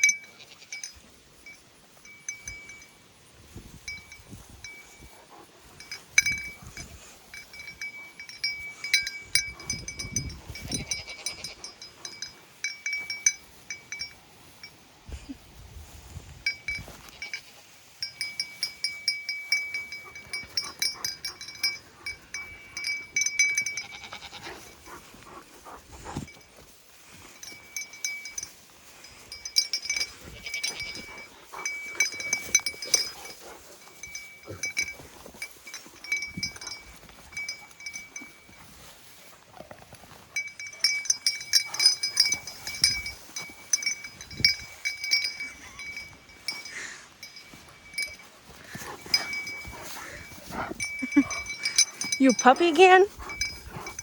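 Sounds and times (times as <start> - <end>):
small metal bell jingling: 0.0 - 15.4, 16.4 - 39.3, 40.1 - 54.0.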